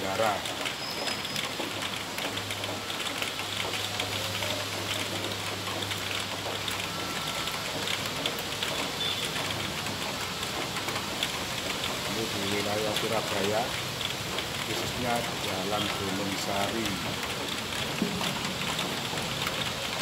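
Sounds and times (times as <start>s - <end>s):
heavy rain on metal roof: 0.0s - 20.0s.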